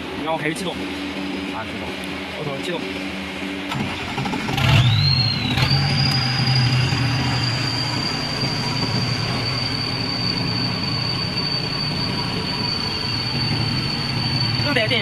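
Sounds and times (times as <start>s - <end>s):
constant high whine: 0.0s - 15.0s
generator engine starting and running: 0.0s - 15.0s.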